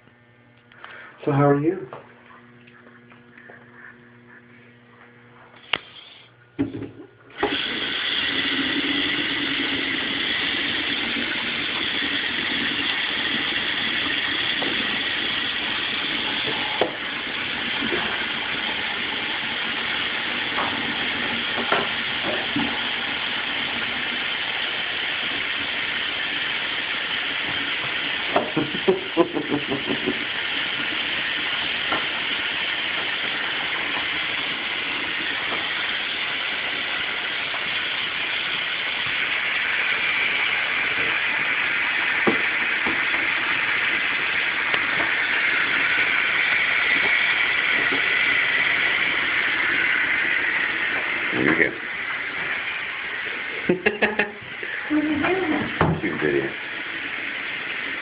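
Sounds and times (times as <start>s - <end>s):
water running into basin: 5.6s - 58.0s.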